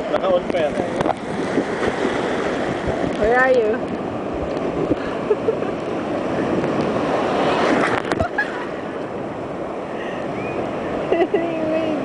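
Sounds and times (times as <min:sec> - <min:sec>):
waves breaking on the shore: 0:00.0 - 0:12.0.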